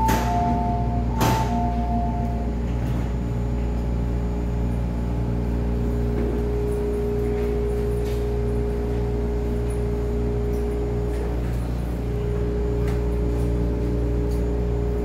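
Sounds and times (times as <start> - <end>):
electric train motor whine: 0.0 - 15.0
train rumbling: 0.0 - 15.0.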